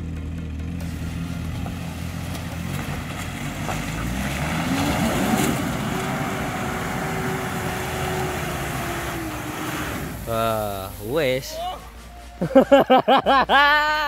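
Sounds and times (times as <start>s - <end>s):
suv engine revving: 0.0s - 12.9s.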